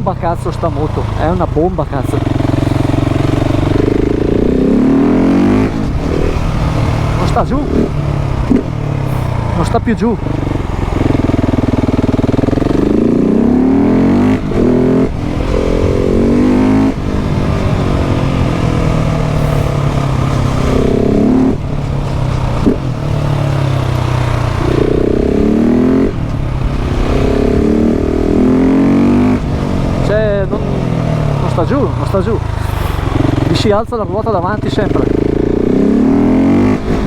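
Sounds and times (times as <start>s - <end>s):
motorcycle engine revving hard: 0.0s - 37.0s.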